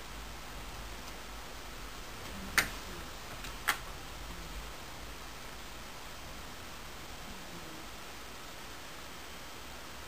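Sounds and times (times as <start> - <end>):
low recording hiss: 0.0 - 10.0.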